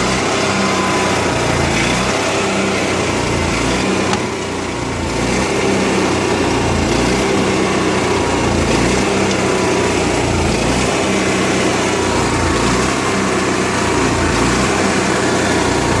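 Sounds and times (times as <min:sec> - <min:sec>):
generator engine running rough: 0:00.0 - 0:16.0.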